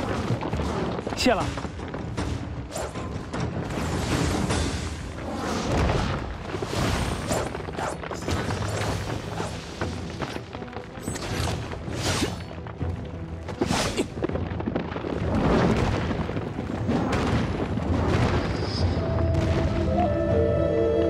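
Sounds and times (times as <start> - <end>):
dramatic battle music: 0.0 - 21.0.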